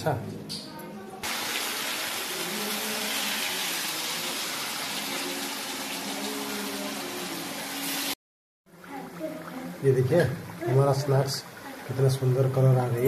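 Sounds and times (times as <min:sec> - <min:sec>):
deep-frying in oil sizzle: 0:01.2 - 0:13.0.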